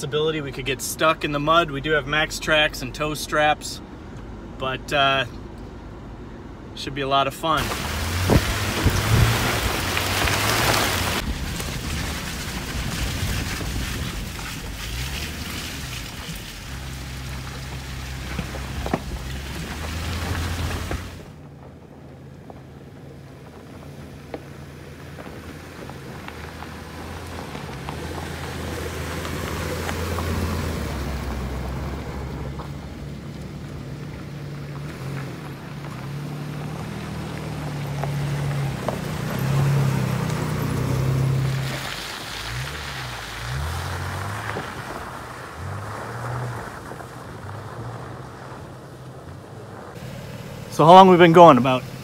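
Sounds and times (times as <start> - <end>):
approaching vehicle: 0.0 - 52.0
stones clicking under tyres: 7.6 - 50.1
car engine driving past: 7.6 - 52.0.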